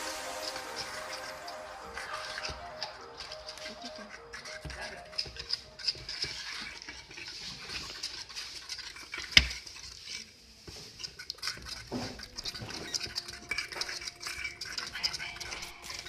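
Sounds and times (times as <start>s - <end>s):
spoon stirring slime: 2.0s - 16.0s.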